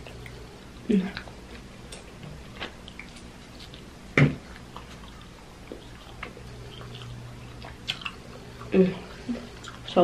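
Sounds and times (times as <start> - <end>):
chewing with wet mouth clicks: 0.0 - 8.7, 9.4 - 9.9.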